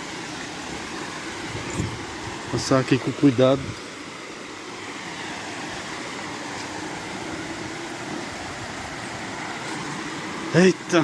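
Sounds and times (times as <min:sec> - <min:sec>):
waterfall rushing hiss: 0:00.0 - 0:11.0.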